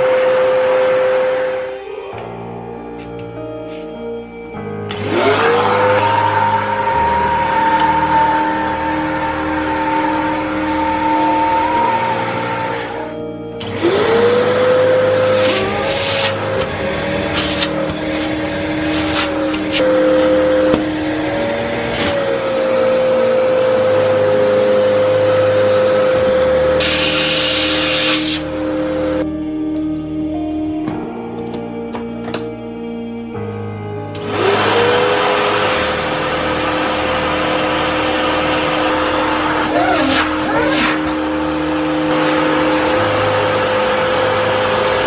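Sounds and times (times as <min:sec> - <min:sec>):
vacuum cleaner motor whining: 0:00.0 - 0:29.3, 0:34.1 - 0:45.0.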